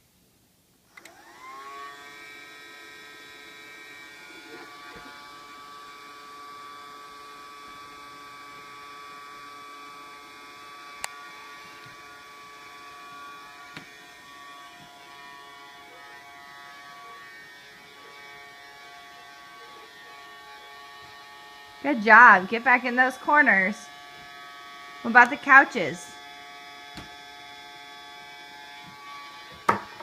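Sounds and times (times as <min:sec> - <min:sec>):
vacuum cleaner running: 0:00.9 - 0:30.0.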